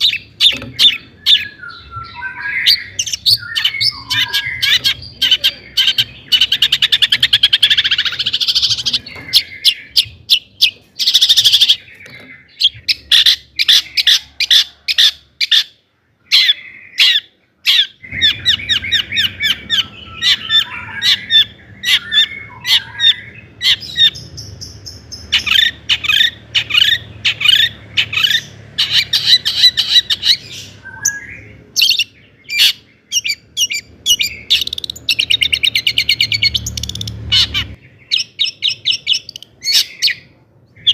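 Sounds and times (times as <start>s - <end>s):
bird singing sharp repeated notes: 0.0s - 40.9s
harsh chattering bird calls: 0.0s - 40.9s.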